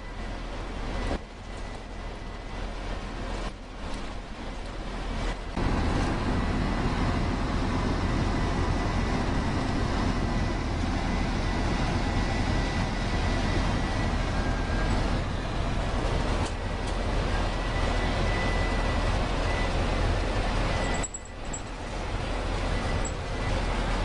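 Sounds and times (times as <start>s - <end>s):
road vehicle running rumble: 0.0s - 24.0s.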